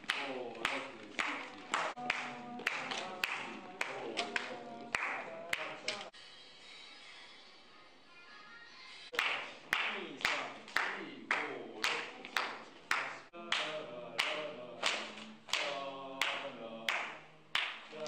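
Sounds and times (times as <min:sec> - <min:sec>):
hand claps keeping a beat: 0:00.0 - 0:06.1, 0:09.2 - 0:18.0.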